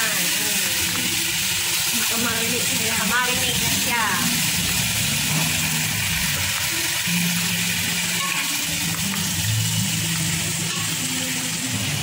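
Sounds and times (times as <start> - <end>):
background guitar music: 0.0 - 12.0.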